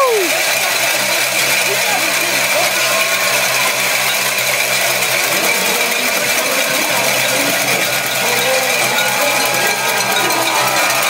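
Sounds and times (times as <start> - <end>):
cowbells ringing: 0.0 - 11.0
crowd noise: 0.0 - 11.0.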